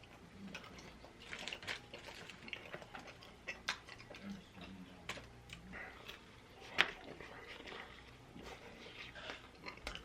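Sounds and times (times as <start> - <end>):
chewing and lip smacks: 0.0 - 10.0.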